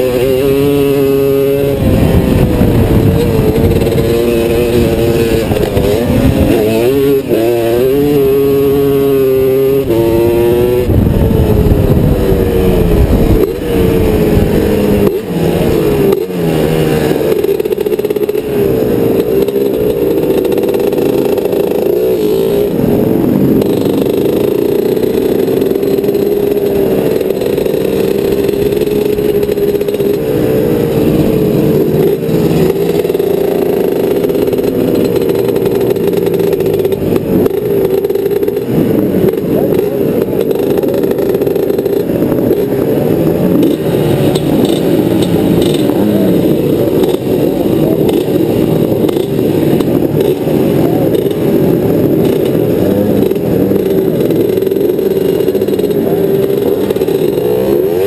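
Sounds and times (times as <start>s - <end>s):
engine revving: 0.0s - 58.0s.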